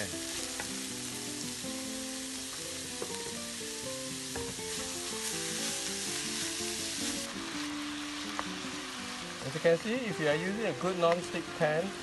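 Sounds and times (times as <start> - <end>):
meat sizzling in a wok: 0.0 - 12.0.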